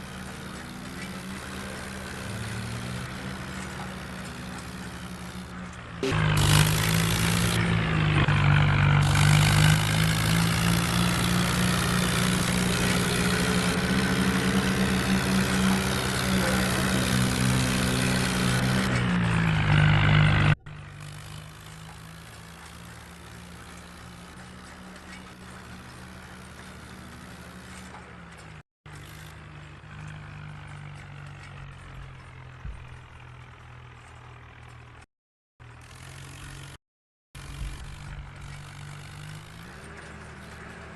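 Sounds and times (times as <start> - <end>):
tractor diesel engine running: 0.0 - 36.8, 37.4 - 40.9.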